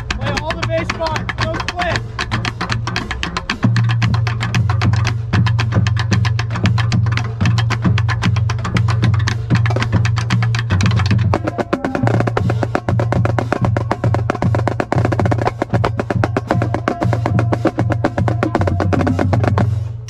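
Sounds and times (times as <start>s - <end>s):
deep low drum pulse: 0.0s - 20.0s
rapid snare strokes: 0.0s - 20.0s.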